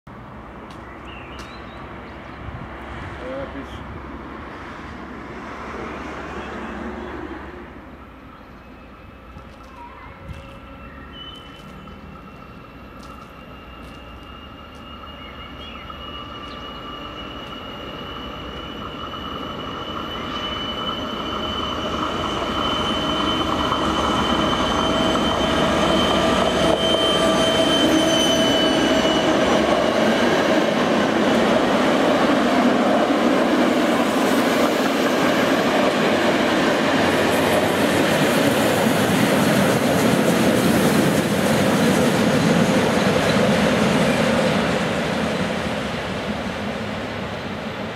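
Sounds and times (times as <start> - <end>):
diesel locomotive engine: 0.1 - 47.9
train coaches rolling by: 0.1 - 47.9.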